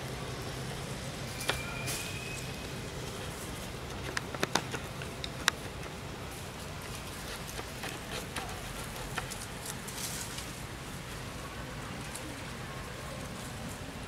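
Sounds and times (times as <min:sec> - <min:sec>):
leaves crackling under footsteps: 0:00.0 - 0:14.0.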